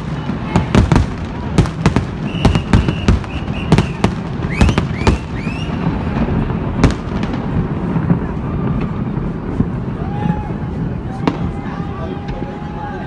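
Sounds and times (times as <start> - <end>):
rising firework whistles: 0.0 - 12.8
fireworks bangs: 0.0 - 13.0.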